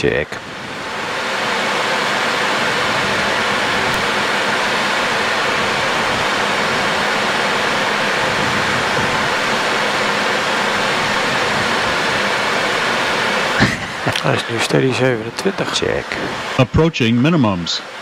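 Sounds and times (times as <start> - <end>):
cockpit airflow noise: 0.0 - 18.0
jet engines: 0.0 - 18.0.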